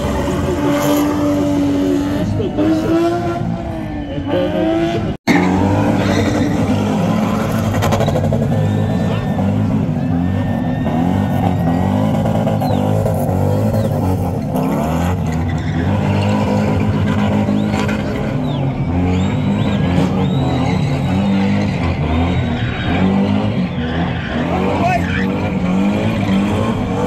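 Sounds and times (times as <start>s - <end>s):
car engine at high revs: 0.0s - 27.0s.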